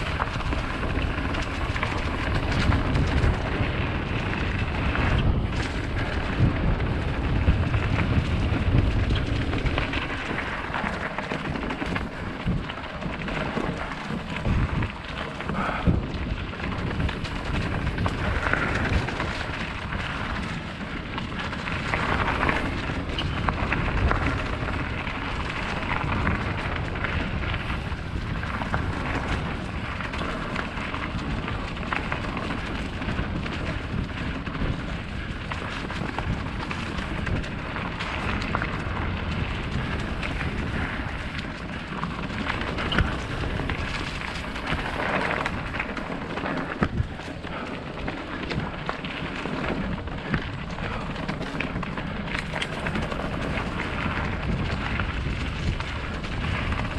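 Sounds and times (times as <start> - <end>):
bike tyres rumbling over dirt: 0.0 - 56.9.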